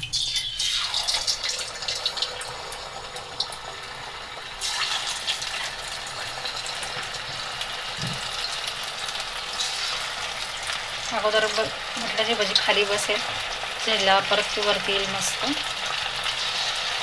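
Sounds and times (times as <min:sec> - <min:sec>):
potato slices deep-frying in oil: 0:00.0 - 0:17.0.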